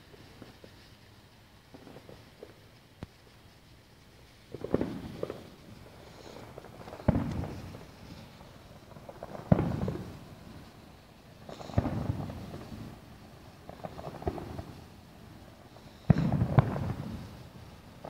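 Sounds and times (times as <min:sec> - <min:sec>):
fireworks booms with rolling rumble: 0:00.0 - 0:18.0
fireworks cracking: 0:00.0 - 0:18.0.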